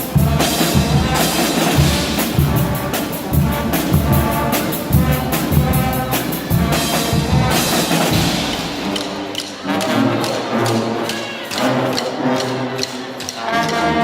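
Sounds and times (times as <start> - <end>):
pounding drumbeat: 0.0 - 12.0
brass band playing: 0.0 - 14.0.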